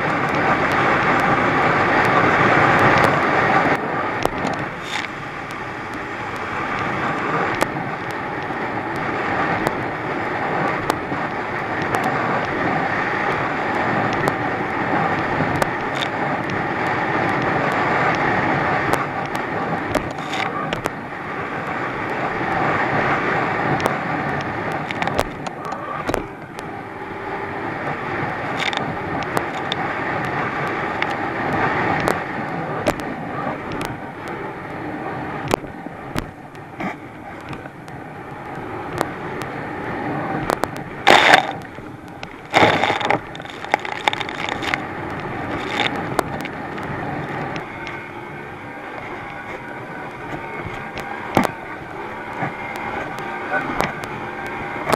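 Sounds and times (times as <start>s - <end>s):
outboard engine drone: 0.0s - 54.9s
rushing wind and water: 0.0s - 54.9s.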